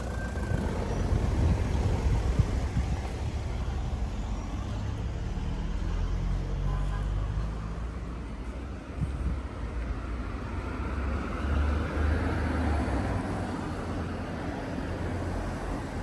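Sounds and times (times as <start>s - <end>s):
traffic rumble and hiss: 0.0s - 16.0s.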